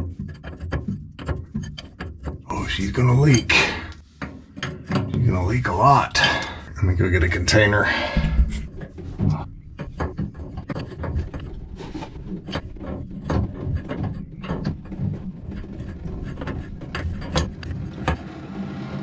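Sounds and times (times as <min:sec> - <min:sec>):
wrench metal clicks and scrapes: 0:00.0 - 0:06.6, 0:07.2 - 0:18.2
steady low hum: 0:02.4 - 0:19.0.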